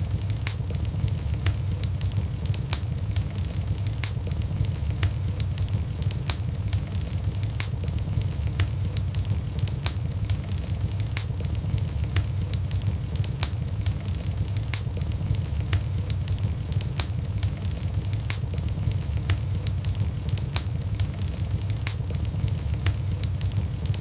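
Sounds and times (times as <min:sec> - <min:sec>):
burning wood popping and snapping: 0:00.0 - 0:24.0
low rumble of flames: 0:00.0 - 0:24.0.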